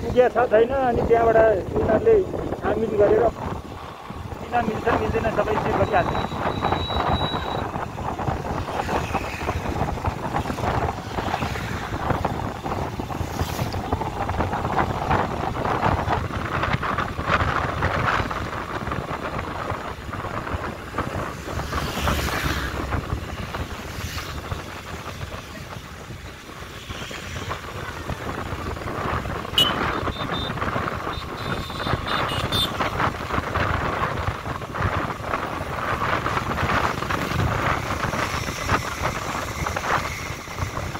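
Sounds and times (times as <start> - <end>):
vehicle moving: 0.0 - 40.9
wind rushing over microphone: 0.0 - 40.9.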